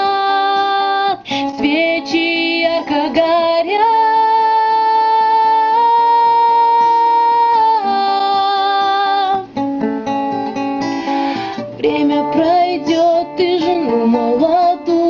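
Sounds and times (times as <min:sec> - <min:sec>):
high singing voice: 0:00.0 - 0:09.5, 0:11.7 - 0:15.0
plucked acoustic guitar: 0:00.0 - 0:15.0.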